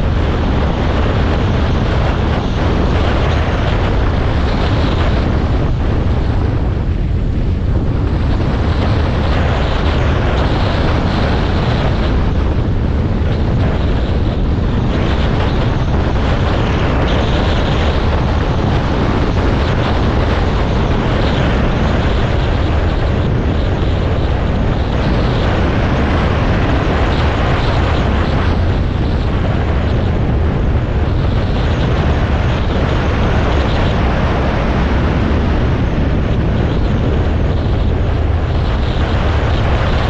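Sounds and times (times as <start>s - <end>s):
wind noise on microphone: 0.0s - 40.0s.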